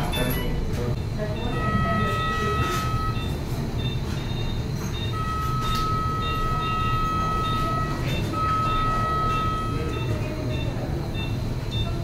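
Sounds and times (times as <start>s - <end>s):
continuous electronic tone: 0.0s - 12.0s
faint short beeps: 1.4s - 12.0s.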